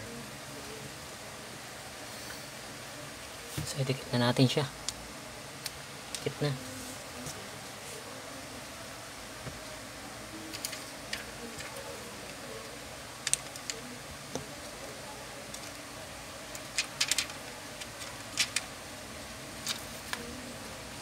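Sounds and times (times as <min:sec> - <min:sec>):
steady low hiss: 0:00.0 - 0:21.0.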